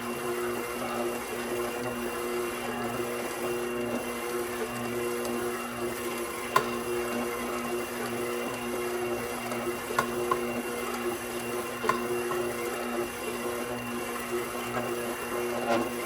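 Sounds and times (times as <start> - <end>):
stand mixer motor running: 0.0 - 16.0.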